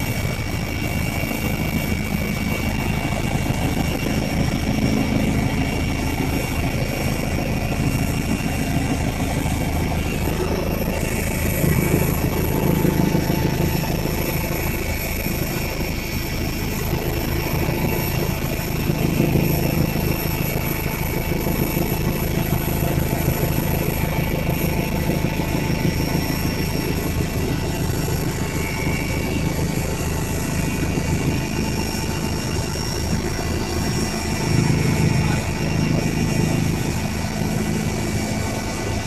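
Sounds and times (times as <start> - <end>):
helicopter engine and rotor: 0.0 - 39.0.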